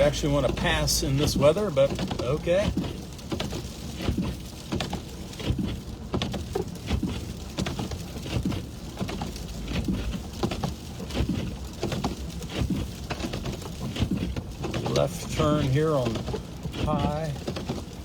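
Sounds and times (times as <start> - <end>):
car driving rumble: 0.0 - 18.0
sleet pattering on car: 0.0 - 18.0.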